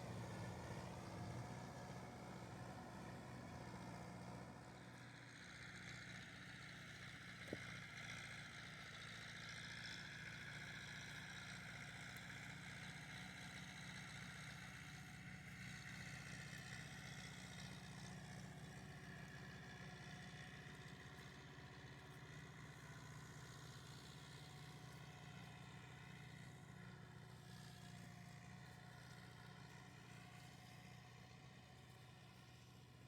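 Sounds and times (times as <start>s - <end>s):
faint engine running: 0.0s - 33.0s.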